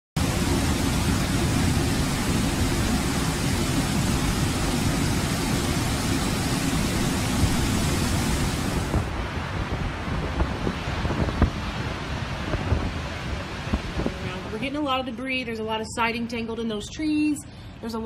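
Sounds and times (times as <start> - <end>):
wind buffeting microphone: 0.2 - 15.3
strong wind with driving rain: 0.2 - 15.9.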